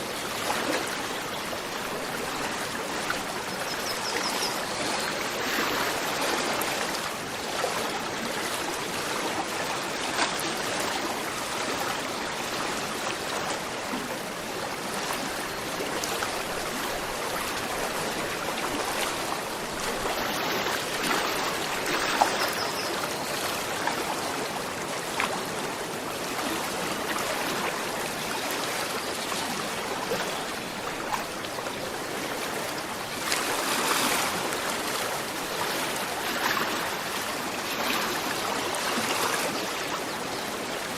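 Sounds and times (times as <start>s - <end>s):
river water babbling over stones: 0.0s - 40.9s.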